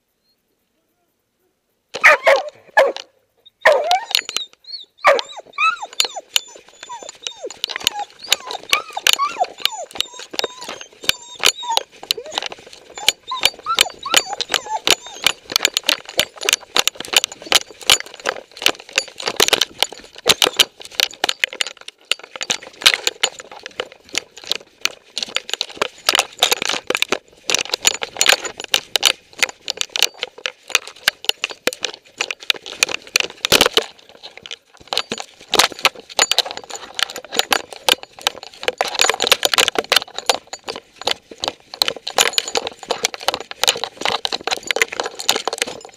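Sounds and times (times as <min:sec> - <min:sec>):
metal tags jingling: 0:02.0 - 0:45.9
camera rig rattling: 0:05.1 - 0:45.9.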